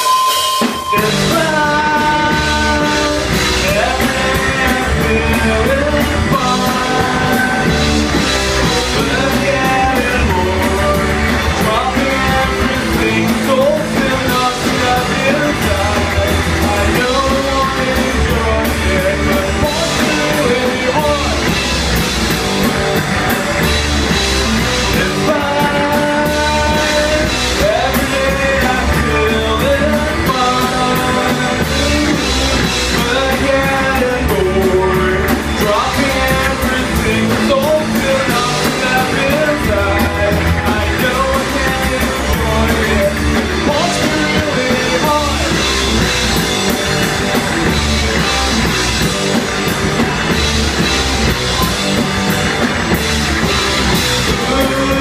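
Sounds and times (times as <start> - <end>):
person singing: 0.0 - 22.0, 24.4 - 46.4, 53.4 - 55.0
live rock band playing: 0.0 - 55.0.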